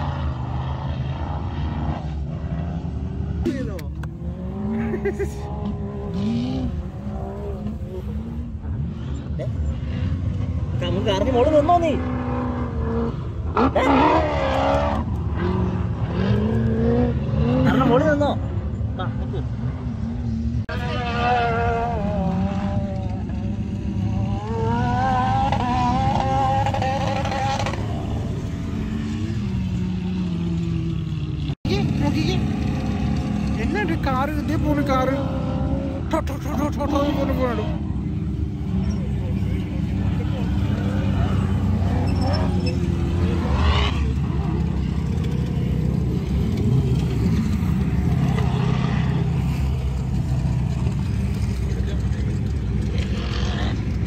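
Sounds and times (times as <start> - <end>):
dune buggy engine revving: 0.0 - 54.0.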